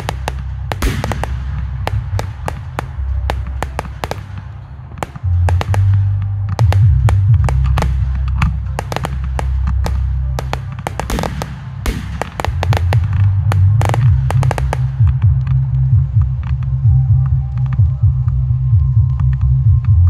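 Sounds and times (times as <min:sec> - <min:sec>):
fireworks bangs and crackles: 0:00.0 - 0:16.7
heavy low rumble: 0:00.0 - 0:20.0.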